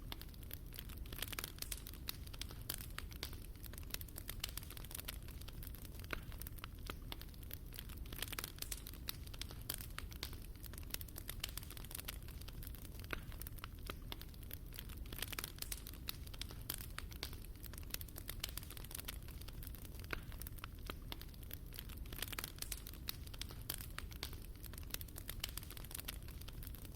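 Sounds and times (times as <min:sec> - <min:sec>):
burning logs crackling and popping: 0:00.0 - 0:26.9
fire flames rumbling: 0:00.0 - 0:26.9.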